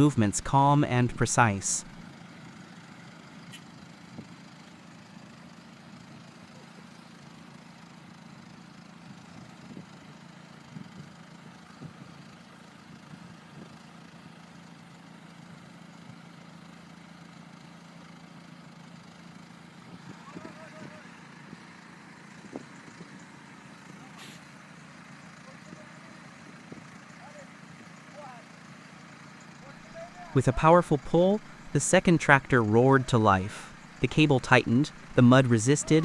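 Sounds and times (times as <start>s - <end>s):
faint tractor engine idling: 0.0s - 36.0s.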